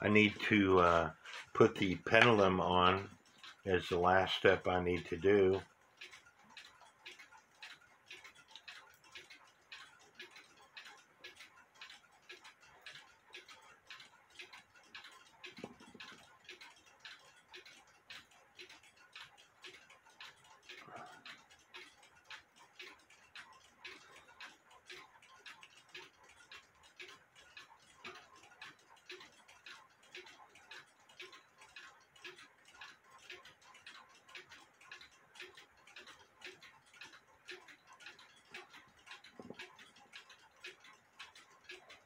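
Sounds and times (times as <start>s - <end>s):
clock ticking: 0.0s - 42.0s.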